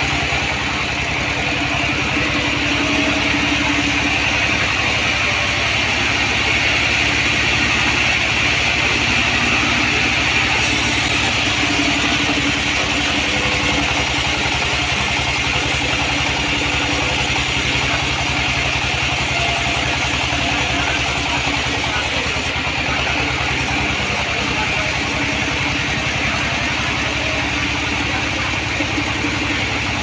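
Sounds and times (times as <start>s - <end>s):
band saw machinery humming: 0.0s - 30.0s.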